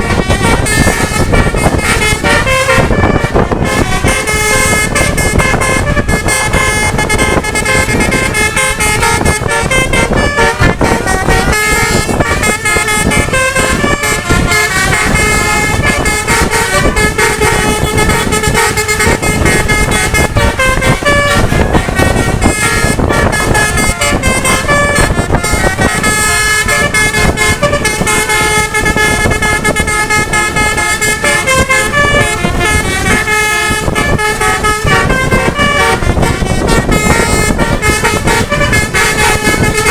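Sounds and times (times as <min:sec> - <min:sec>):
multi-tone bus horns playing a tune: 0:00.0 - 0:39.9
road and engine noise: 0:00.0 - 0:39.9.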